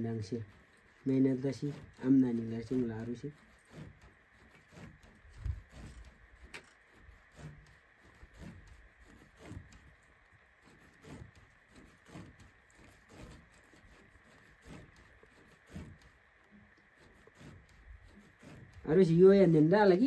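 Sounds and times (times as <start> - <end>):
yarn rustling on a loom: 0.0 - 20.0.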